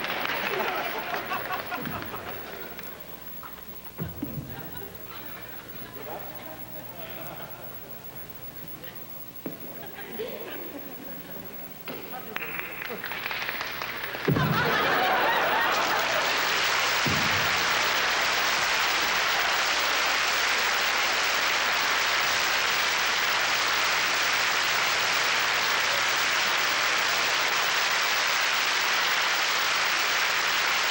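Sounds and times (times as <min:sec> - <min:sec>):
crowd applauding: 0:00.0 - 0:30.9.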